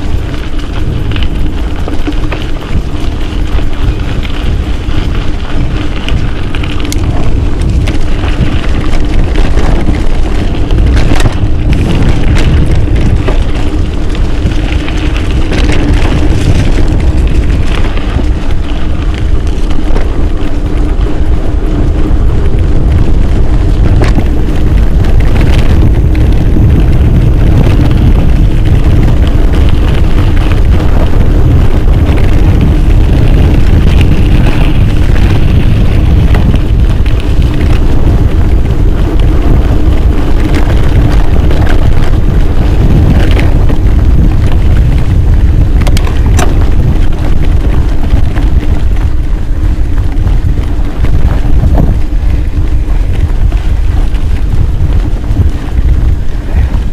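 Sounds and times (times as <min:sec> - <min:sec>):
bike knocking over bumps: 0:00.0 - 0:56.9
bike rattling: 0:00.0 - 0:56.9
wind buffeting microphone: 0:00.0 - 0:56.9.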